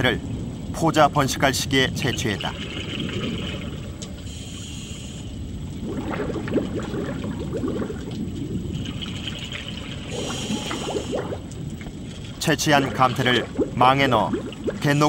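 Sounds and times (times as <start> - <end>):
water sloshing and trickling: 0.0 - 15.0.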